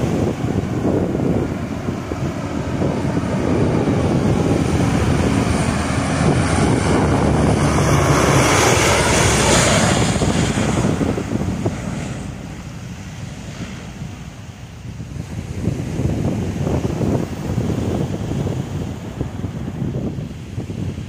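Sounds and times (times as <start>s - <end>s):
loud propeller drone overhead: 0.0s - 21.0s.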